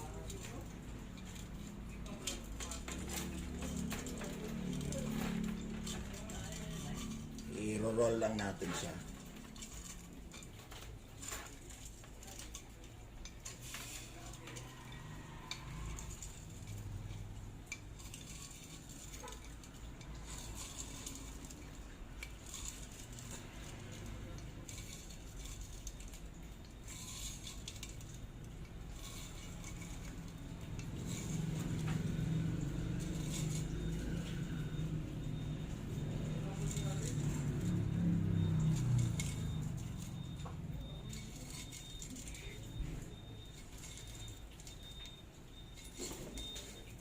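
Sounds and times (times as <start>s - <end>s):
metallic clinks and scrapes: 0.0s - 47.0s.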